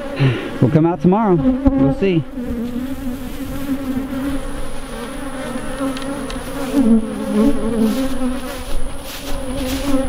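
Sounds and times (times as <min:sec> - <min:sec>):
bee passing close by: 0:00.0 - 0:10.0
honey bees buzzing: 0:00.0 - 0:10.0.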